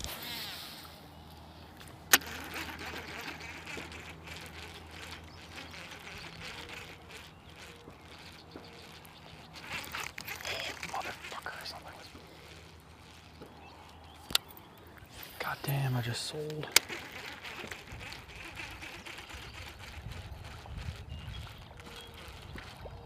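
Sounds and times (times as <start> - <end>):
rustling and splashing: 1.8 - 14.3, 16.4 - 23.0.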